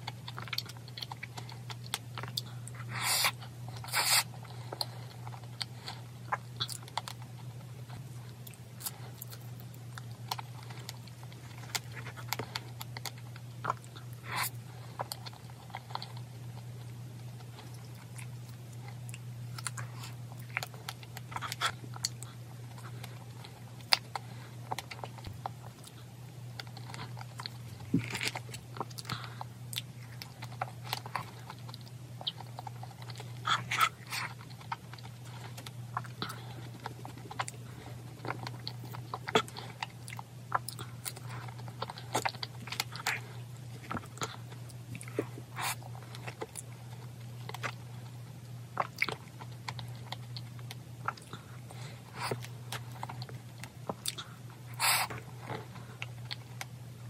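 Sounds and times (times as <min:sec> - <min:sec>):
person chewing: 0:00.0 - 0:56.7
steady low hum: 0:00.0 - 0:57.0.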